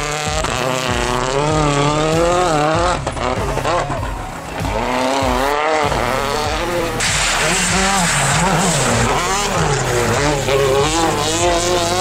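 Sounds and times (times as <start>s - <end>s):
rally car engine revving: 0.0s - 12.0s
sharp exhaust pops: 0.0s - 12.0s.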